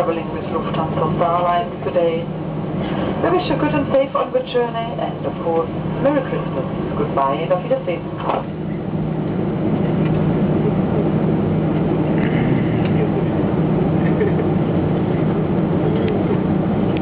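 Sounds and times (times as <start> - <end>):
aircraft cabin engine hum: 0.0 - 17.0
faint passenger voices: 0.0 - 17.0.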